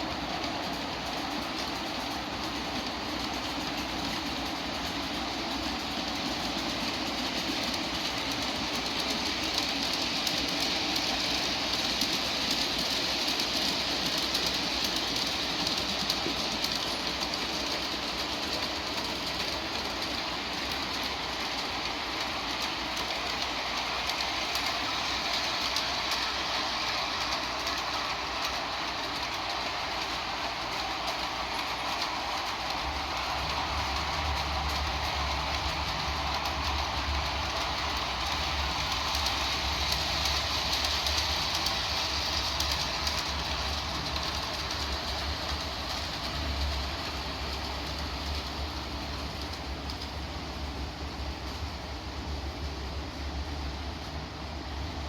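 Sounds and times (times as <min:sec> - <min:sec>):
wheels clicking over rail joints: 0:00.0 - 0:50.4
model train wheels rumbling: 0:00.0 - 0:55.0.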